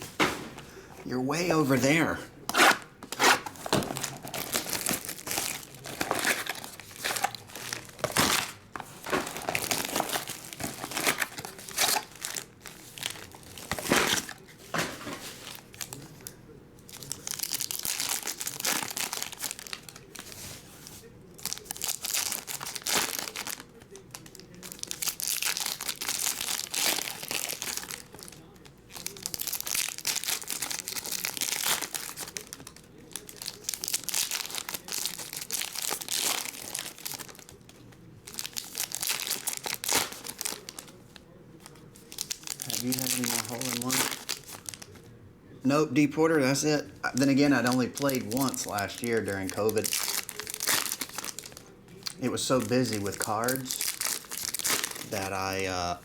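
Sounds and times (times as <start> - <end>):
card pack wrappers tearing and crinkling: 1.3 - 20.7, 21.3 - 45.0, 47.1 - 56.0.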